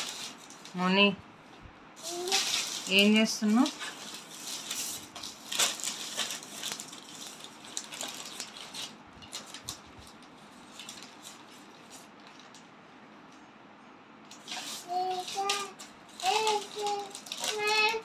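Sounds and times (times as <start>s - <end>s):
plastic sheeting and paper crinkling: 0.0s - 1.0s, 2.0s - 12.6s, 14.3s - 18.0s.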